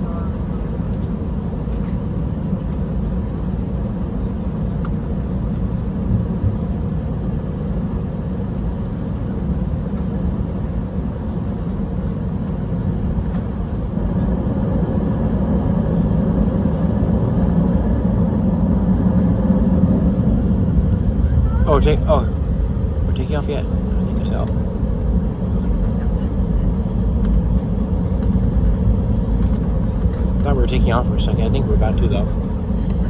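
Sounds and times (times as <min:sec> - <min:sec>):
jet engine noise in cabin: 0:00.0 - 0:33.0.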